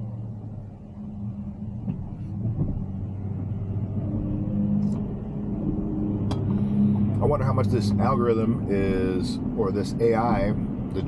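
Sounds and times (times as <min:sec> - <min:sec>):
road rumble inside car cabin: 0:00.0 - 0:11.0.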